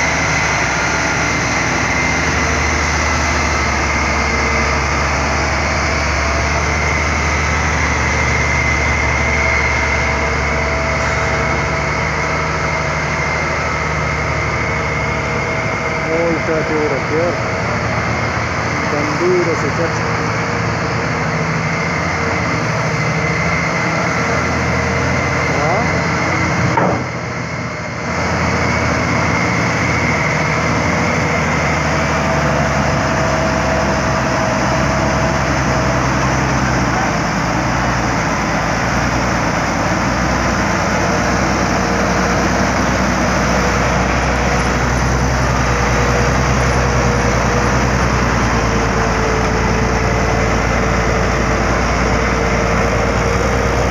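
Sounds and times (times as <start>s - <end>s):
truck diesel engine idling: 0.0s - 53.9s.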